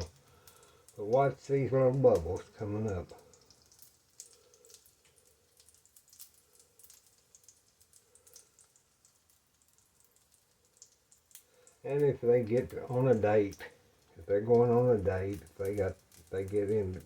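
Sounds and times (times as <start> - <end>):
batter frying in grease: 0.0 - 17.0.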